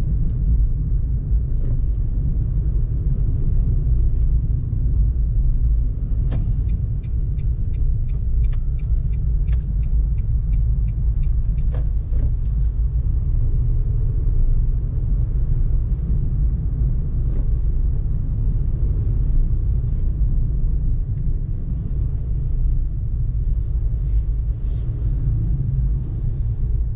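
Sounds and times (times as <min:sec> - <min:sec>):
engine and road noise: 0:00.0 - 0:26.9.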